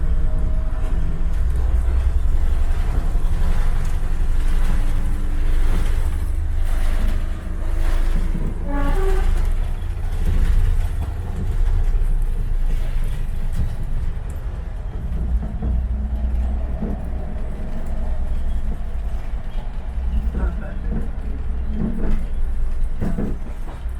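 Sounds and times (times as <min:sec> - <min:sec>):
diesel train rumbling: 0:00.0 - 0:23.9.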